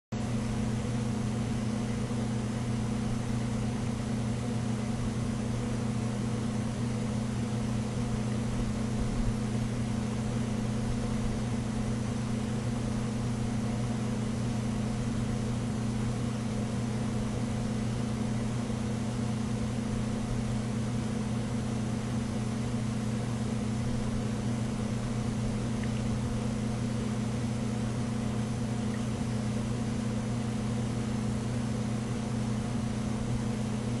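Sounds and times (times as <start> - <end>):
low electrical hum: 0.2 - 34.0.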